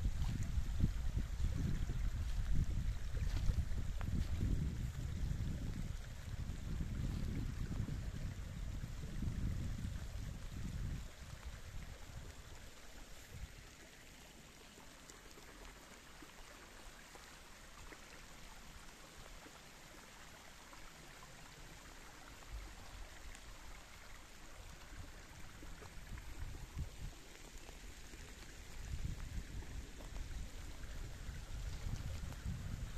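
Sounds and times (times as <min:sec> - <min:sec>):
stream water flowing: 0:00.0 - 0:32.9.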